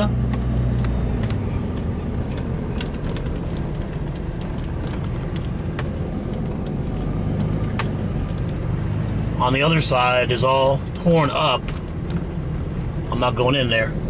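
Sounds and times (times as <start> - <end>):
car engine: 0.0 - 14.0
road noise: 0.0 - 14.0.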